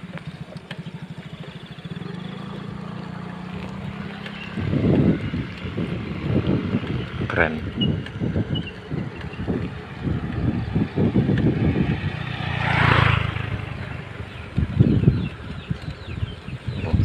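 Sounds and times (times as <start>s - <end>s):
road traffic noise: 0.0s - 17.0s
vehicle passing: 0.0s - 17.0s
wind buffeting microphone: 2.4s - 17.0s.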